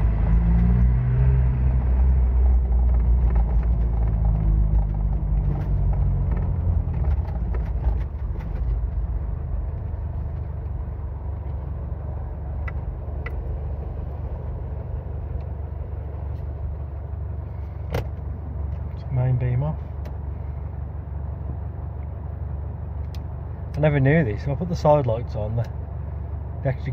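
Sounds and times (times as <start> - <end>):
car engine running: 0.0 - 26.9.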